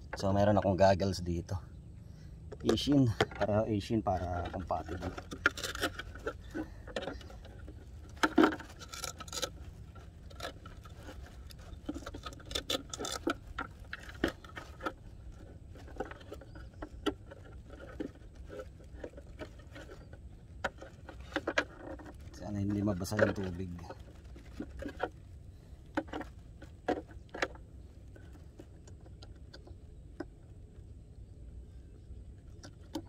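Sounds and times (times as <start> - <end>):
low steady rumble: 0.0 - 33.0
hands handling plastic hull: 2.5 - 33.0.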